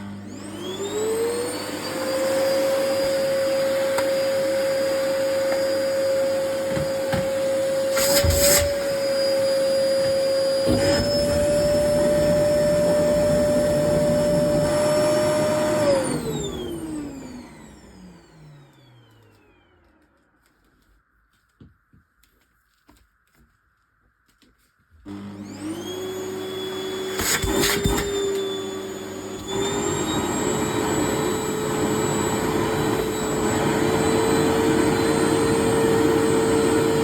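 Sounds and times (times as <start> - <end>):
vacuum cleaner motor whining: 0.0 - 20.4, 25.0 - 37.0.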